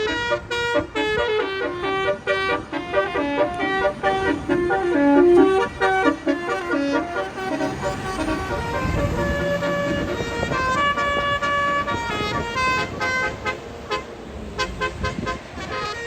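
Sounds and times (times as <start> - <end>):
bus horn playing a melody: 0.0 - 16.0
low bus engine rumble: 0.0 - 16.0.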